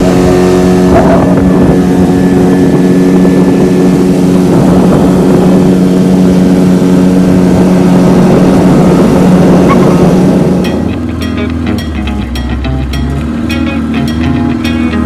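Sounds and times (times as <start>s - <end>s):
speedboat engine running: 0.0s - 15.0s.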